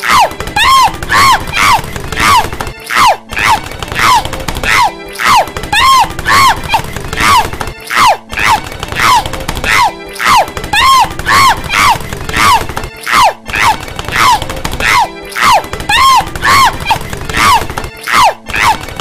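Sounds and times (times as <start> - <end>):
squeaky cartoon voice crying out: 0.0 - 19.0.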